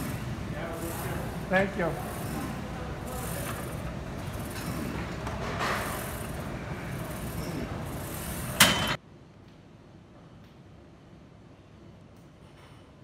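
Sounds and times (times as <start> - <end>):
steady rushing room noise: 0.0 - 12.2.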